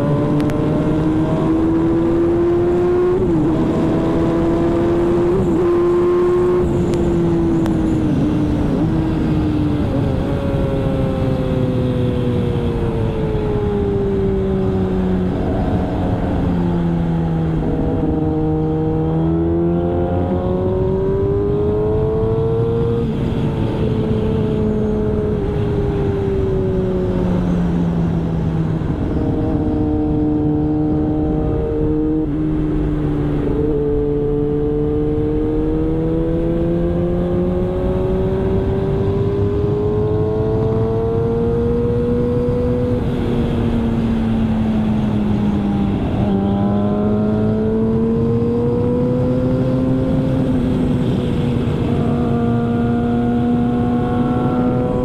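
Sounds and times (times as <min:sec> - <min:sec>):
motorcycle engine revving high: 0:00.0 - 0:55.0.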